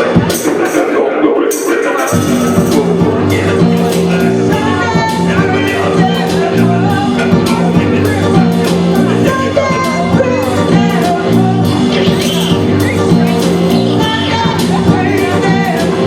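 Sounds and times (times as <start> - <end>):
person singing: 0.0 - 16.0
live rock band playing: 2.2 - 16.0.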